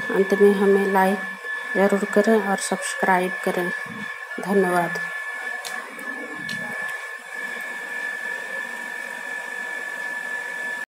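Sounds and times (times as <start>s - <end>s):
small electric motor whirring: 0.0s - 10.8s.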